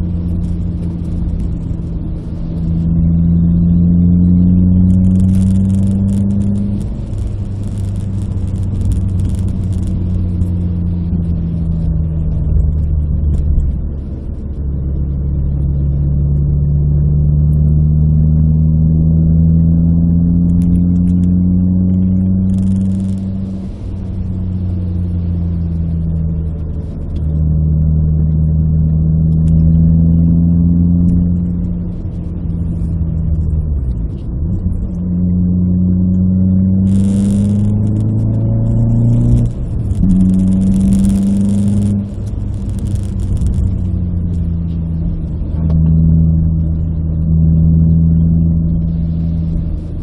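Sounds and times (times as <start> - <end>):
car engine accelerating through gears: 0.0 - 50.0.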